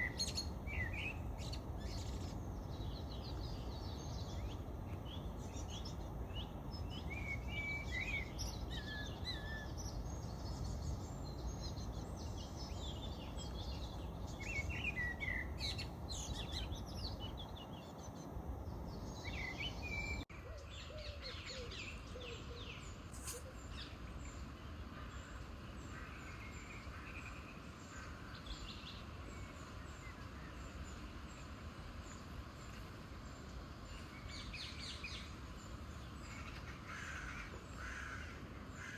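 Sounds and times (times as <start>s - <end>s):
small birds chirping: 0.0s - 38.2s.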